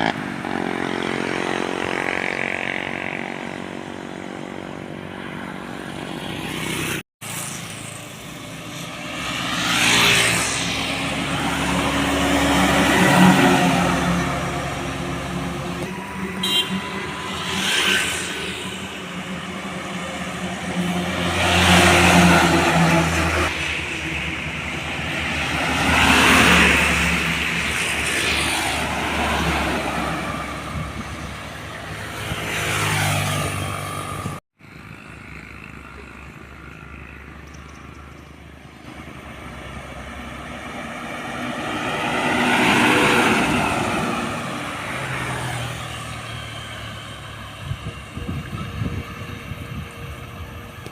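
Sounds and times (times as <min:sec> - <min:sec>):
vehicles driving past: 0:00.0 - 0:50.9.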